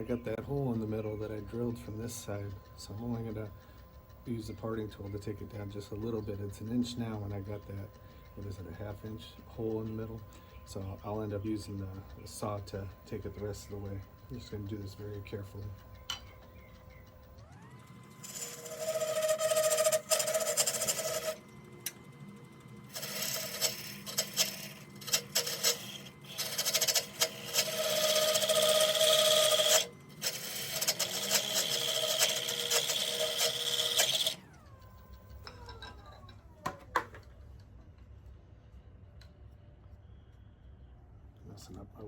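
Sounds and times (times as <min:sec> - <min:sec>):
wood lathe motor whining: 0:00.0 - 0:37.4.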